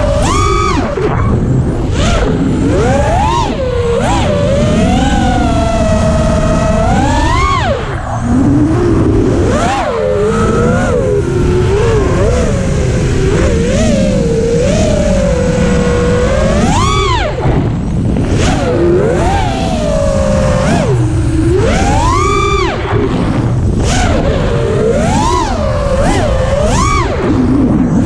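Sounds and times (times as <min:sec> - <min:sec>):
drone motors whining: 0:00.0 - 0:28.0
low rumble: 0:00.0 - 0:28.0.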